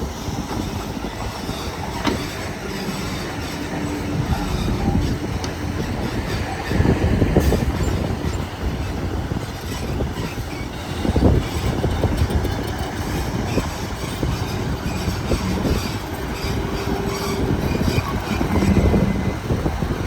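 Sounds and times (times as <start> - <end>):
low diesel rumble: 0.0 - 20.0.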